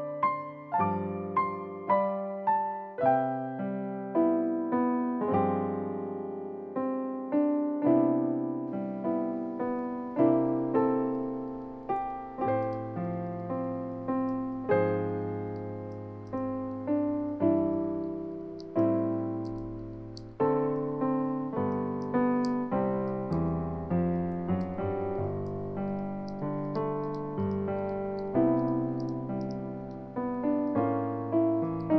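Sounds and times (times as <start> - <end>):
slow piano music: 0.0 - 31.9.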